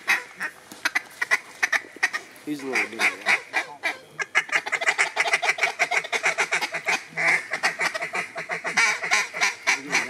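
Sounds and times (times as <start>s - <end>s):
duck calling: 0.0s - 10.0s.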